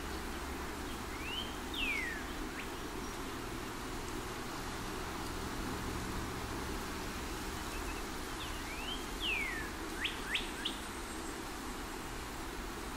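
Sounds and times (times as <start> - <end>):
outdoor ambience hiss: 0.0 - 12.9.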